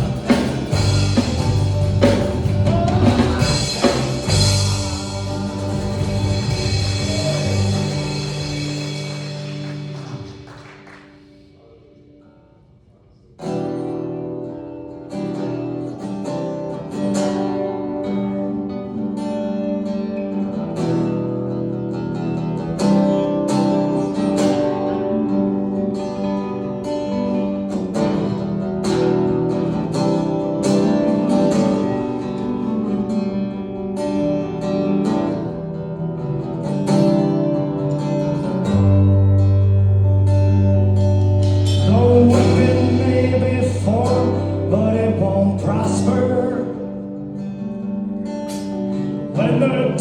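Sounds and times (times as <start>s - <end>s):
guitar strumming chords: 0.0s - 12.2s, 13.4s - 50.0s.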